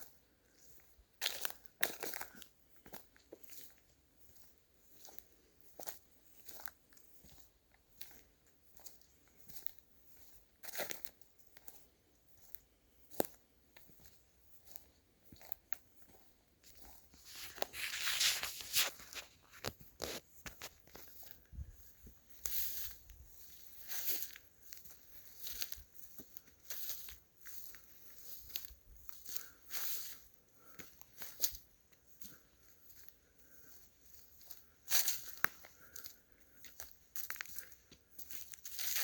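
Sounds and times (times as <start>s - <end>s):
footsteps crunching through dry leaves: 0.0s - 39.0s.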